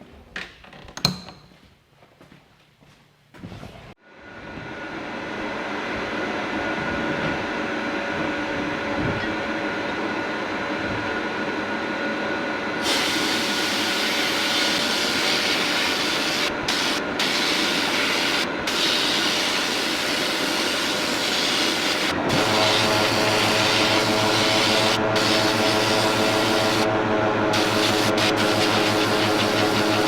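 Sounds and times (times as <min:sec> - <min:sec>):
dust extractor running: 0:04.2 - 0:30.0.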